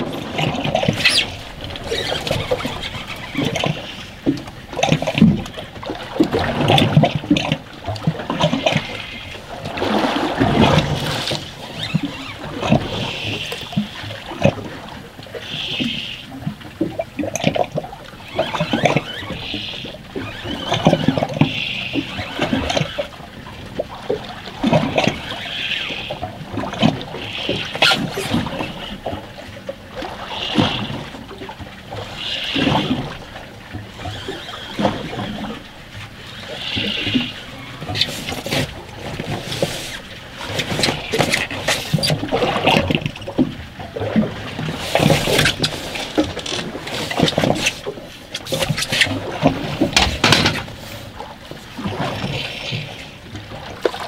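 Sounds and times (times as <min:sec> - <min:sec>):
water splashing against boat hull: 0:00.0 - 0:54.0.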